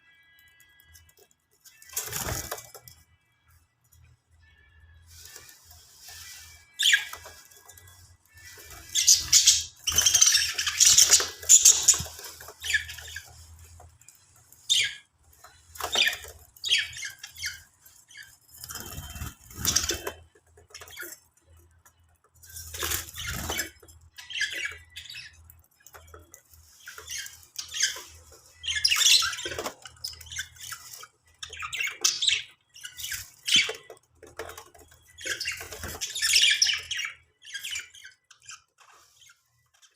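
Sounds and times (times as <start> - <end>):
budgies chattering and squawking: 5.1 - 39.9.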